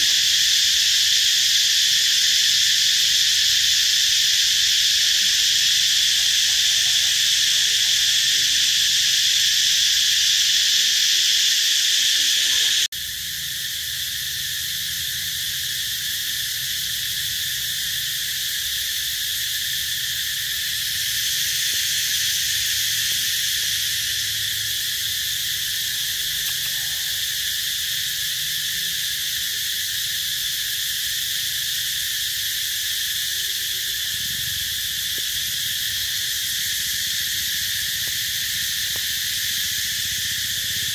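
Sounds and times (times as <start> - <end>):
insects droning chorus: 0.0 - 40.9.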